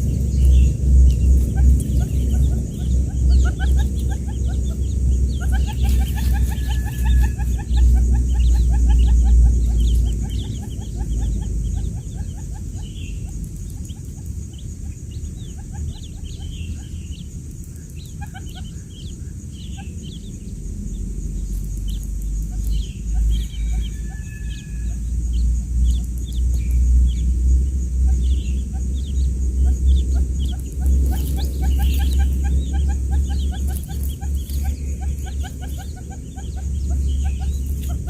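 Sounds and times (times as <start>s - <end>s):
low rumble: 0.0s - 38.0s
quail chicks peeping: 0.0s - 38.0s.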